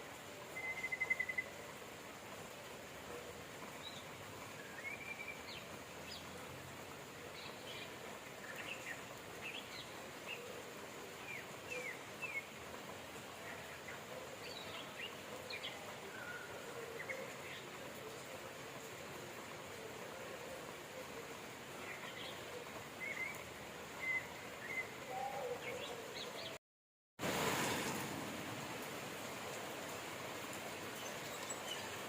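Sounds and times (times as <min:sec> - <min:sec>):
rain hiss: 0:00.0 - 0:26.6, 0:27.2 - 0:32.0.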